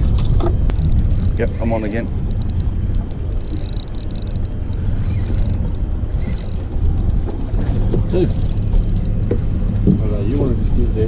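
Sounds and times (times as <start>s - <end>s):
low rumble: 0.0s - 11.0s
fishing reel clicks and rattles: 0.7s - 9.9s.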